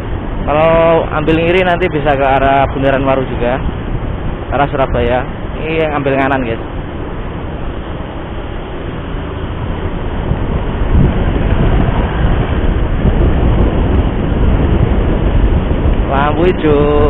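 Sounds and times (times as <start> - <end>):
vehicle road and wind rumble: 0.0 - 17.0.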